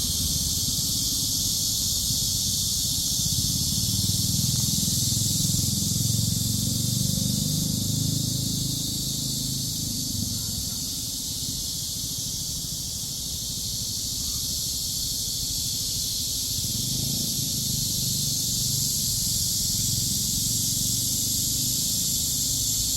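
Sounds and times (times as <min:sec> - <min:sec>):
cicada chorus buzzing: 0:00.0 - 0:22.9.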